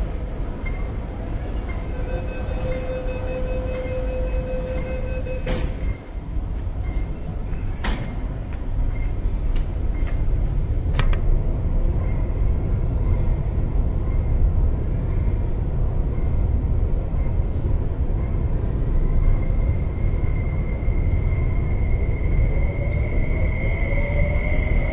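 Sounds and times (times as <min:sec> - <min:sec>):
train rumble: 0:00.0 - 0:24.9.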